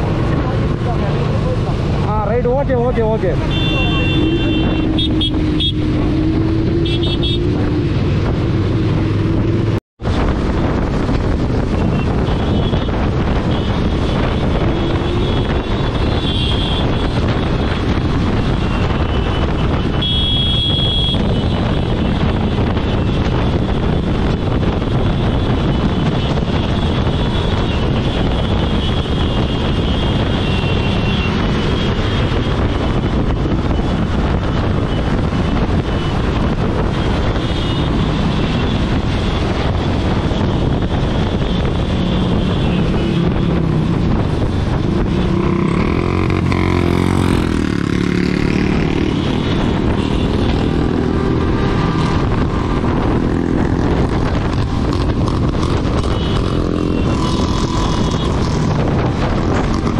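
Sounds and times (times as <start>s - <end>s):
motorcycle engines droning: 0.0s - 59.9s
wind over microphone: 0.0s - 59.9s.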